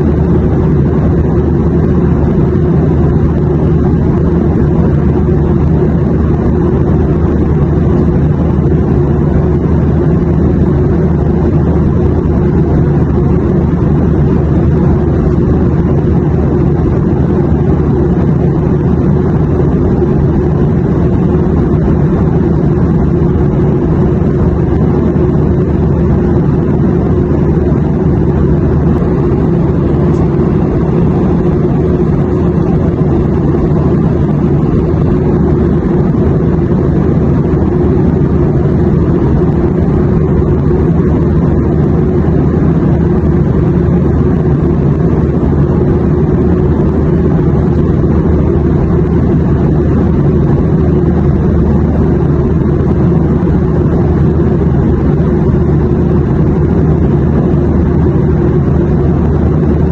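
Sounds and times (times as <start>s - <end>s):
airplane drone: 0.0s - 59.9s.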